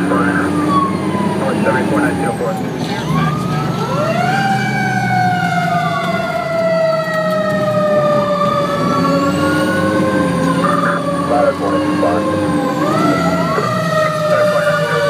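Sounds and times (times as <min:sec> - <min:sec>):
fire engine siren: 0:00.0 - 0:15.0
truck engine drone: 0:00.0 - 0:15.0.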